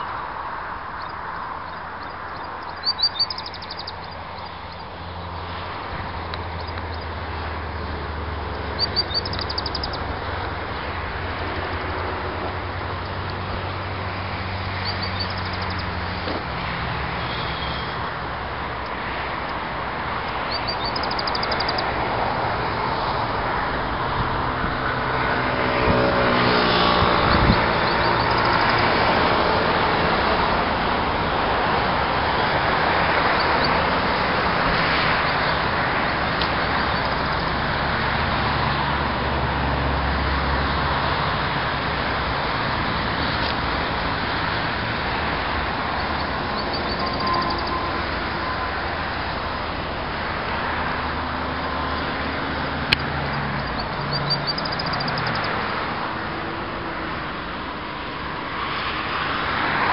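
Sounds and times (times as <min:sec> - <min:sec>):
road traffic noise: 0:00.0 - 0:59.9
vehicle passing: 0:00.0 - 0:59.9.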